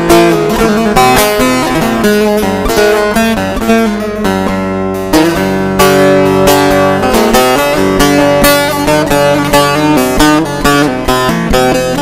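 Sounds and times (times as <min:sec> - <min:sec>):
plucked strings melody: 0:00.0 - 0:12.0
strummed chords: 0:00.0 - 0:12.0.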